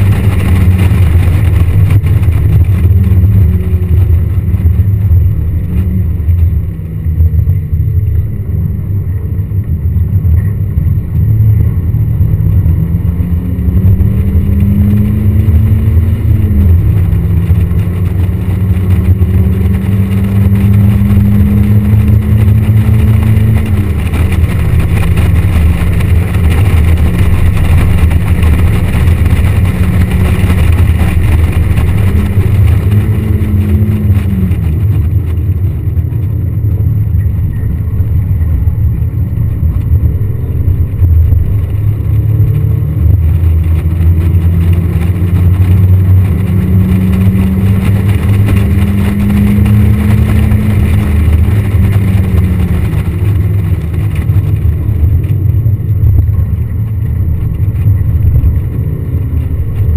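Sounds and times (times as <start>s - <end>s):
car engine running hard: 0.0s - 59.9s
wind rushing: 9.8s - 59.9s.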